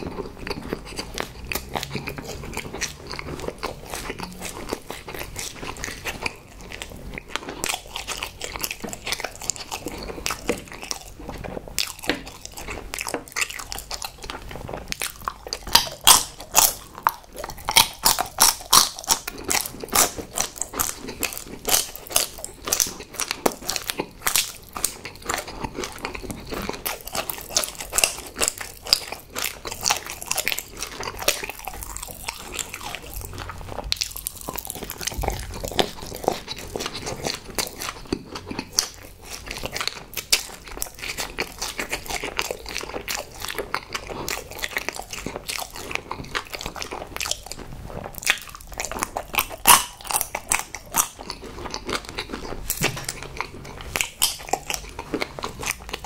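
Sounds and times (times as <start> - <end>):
person chewing chocolate: 0.0 - 56.0.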